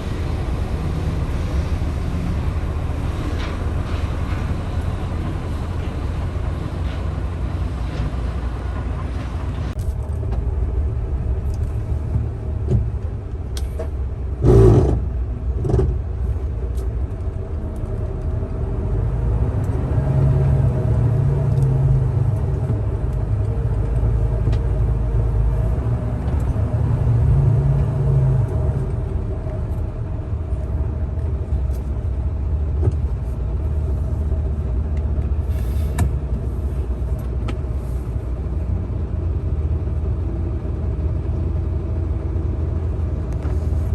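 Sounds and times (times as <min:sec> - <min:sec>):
diesel truck engine rumbling: 0:00.0 - 0:43.9.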